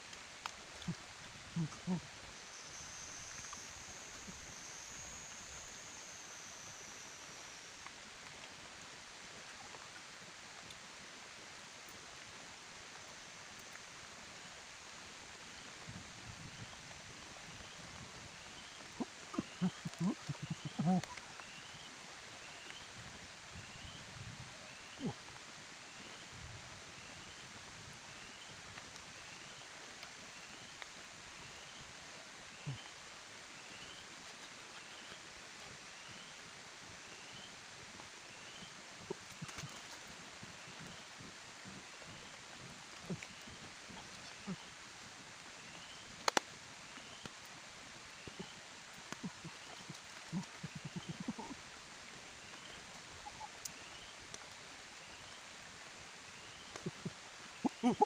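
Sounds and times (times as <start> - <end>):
even hiss of water: 0.0 - 58.0.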